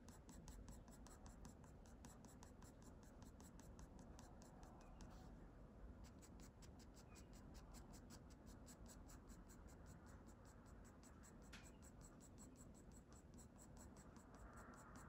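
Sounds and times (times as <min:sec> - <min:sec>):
pencil scratching on paper: 0:00.0 - 0:05.3, 0:06.0 - 0:15.0.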